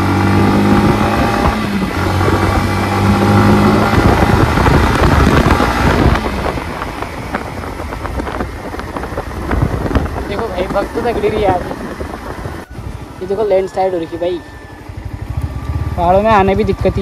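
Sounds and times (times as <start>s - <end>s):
motorcycle engine accelerating: 0.0s - 17.0s
road noise: 0.0s - 17.0s
wind rushing over microphone: 0.0s - 17.0s.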